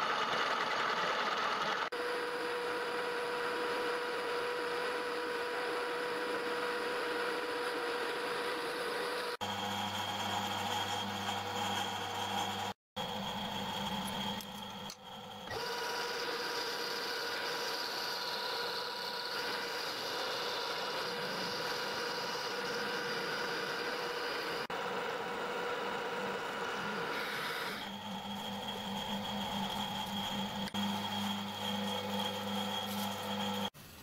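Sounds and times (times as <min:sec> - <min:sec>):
lathe humming: 0:00.0 - 0:33.8.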